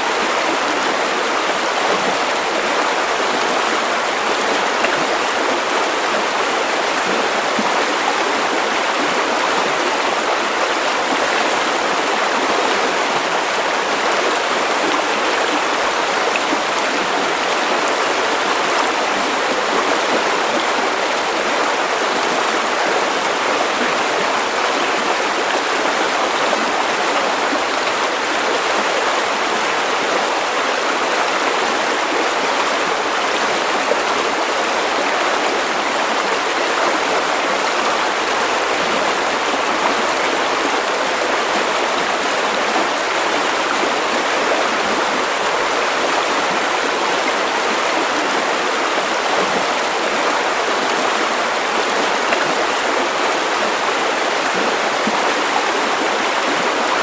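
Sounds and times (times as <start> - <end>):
river water over rocks: 0.0 - 57.0.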